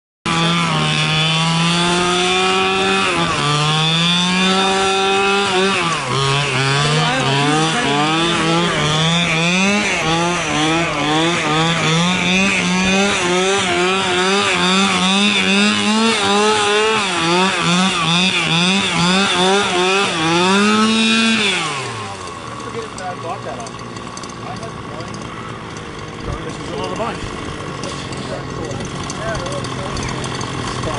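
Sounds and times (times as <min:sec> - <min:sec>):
two-stroke engine revving: 0:00.2 - 0:30.9.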